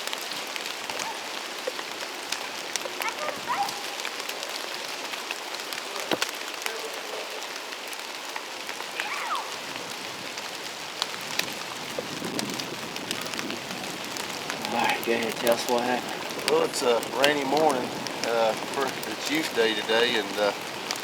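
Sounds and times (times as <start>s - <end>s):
rain pattering on leaves: 0.0s - 21.0s.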